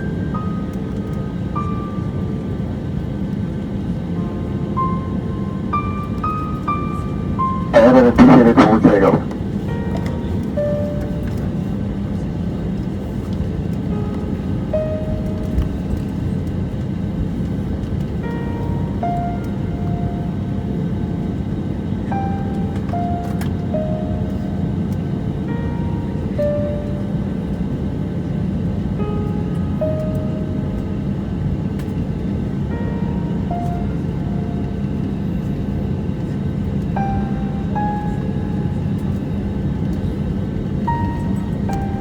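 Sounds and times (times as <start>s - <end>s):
airliner cabin roar: 0.0s - 42.0s
slow background music: 0.0s - 42.0s.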